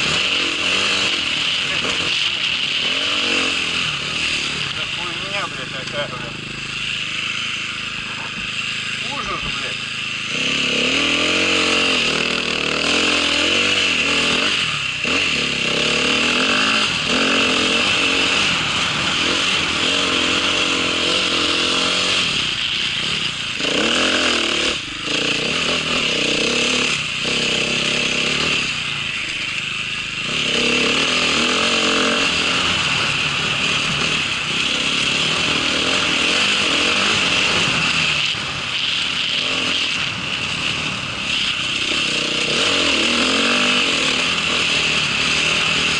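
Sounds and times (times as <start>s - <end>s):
small engine running under load: 0.0s - 45.9s.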